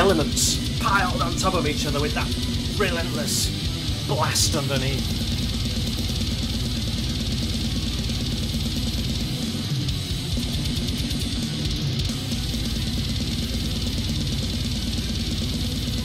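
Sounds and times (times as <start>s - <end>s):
distorted guitars: 0.0s - 16.0s
fast blast beat drums: 0.0s - 16.0s
symphonic death metal: 0.0s - 16.0s.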